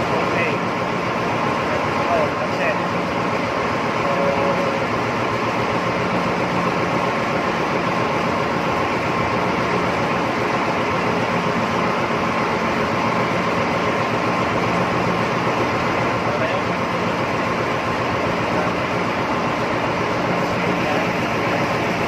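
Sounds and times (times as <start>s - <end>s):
ship machinery drone: 0.0s - 22.0s.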